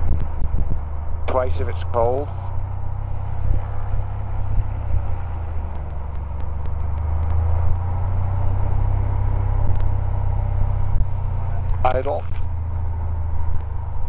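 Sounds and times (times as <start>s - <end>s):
aircraft engine droning: 0.0s - 14.0s.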